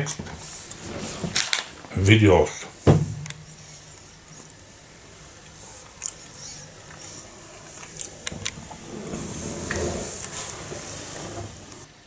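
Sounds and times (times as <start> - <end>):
rustling and shuffling: 0.0 - 12.0.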